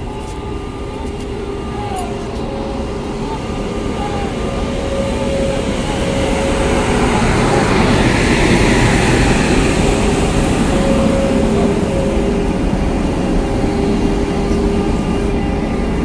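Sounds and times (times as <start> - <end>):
electric train rumbling: 0.0 - 16.0
faint hum: 0.0 - 16.0.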